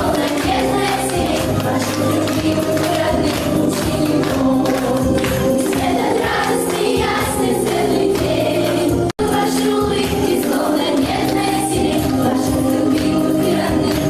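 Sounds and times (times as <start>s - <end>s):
backing music track: 0.0s - 14.0s
choir singing: 0.0s - 14.0s.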